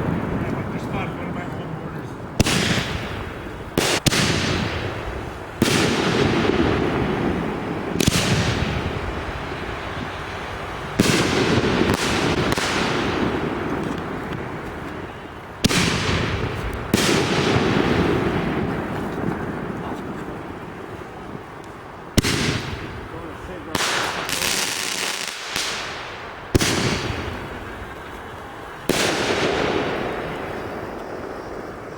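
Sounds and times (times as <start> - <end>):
fireworks bangs with crackle: 0.0 - 31.9.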